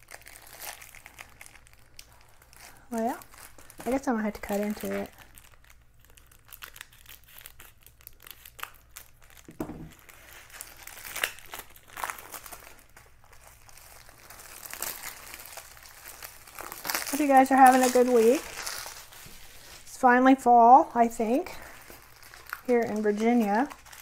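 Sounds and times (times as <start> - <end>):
thin plastic crinkling: 0.0 - 20.5, 21.2 - 24.0.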